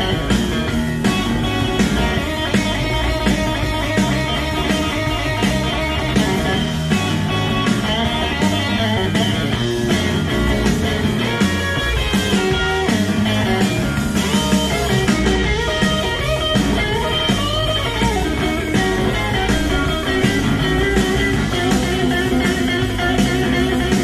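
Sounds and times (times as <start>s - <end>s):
guitar rock music through speakers: 0.0s - 24.0s.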